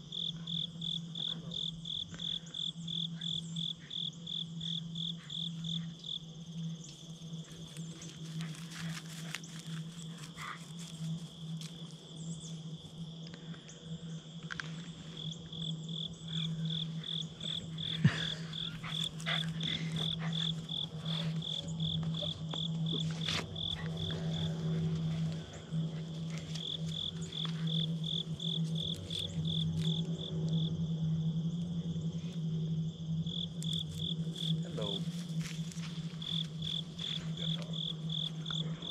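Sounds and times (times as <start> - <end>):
insects chirping: 0.0 - 38.9
steady low hum: 0.0 - 38.9.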